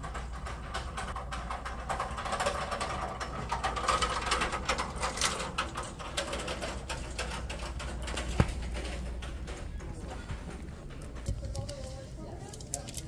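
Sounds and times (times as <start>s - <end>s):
utility cart rattling and clicking: 0.0s - 13.0s.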